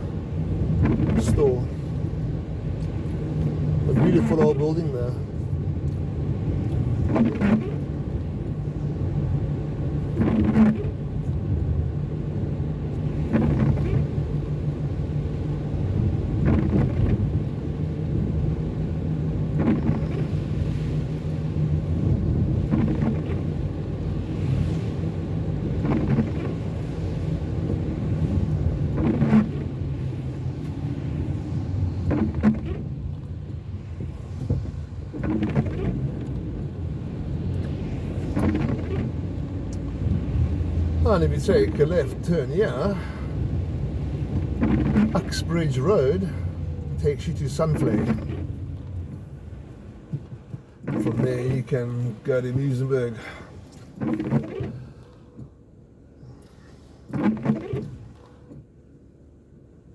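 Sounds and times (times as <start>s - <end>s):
car engine and tyre rumble: 0.0s - 59.9s
windscreen wiper sweeping glass: 0.0s - 59.9s.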